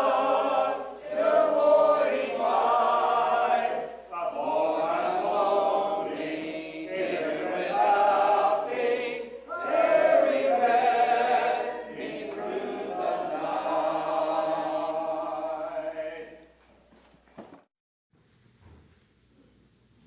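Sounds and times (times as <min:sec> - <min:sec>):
congregation singing a hymn: 0:00.0 - 0:16.6.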